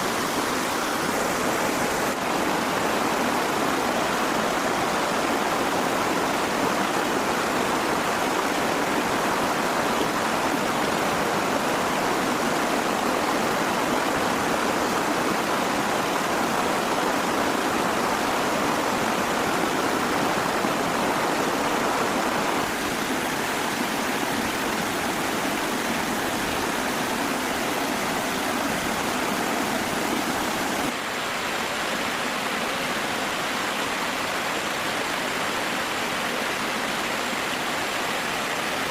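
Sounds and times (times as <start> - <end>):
water rushing: 0.0 - 38.9.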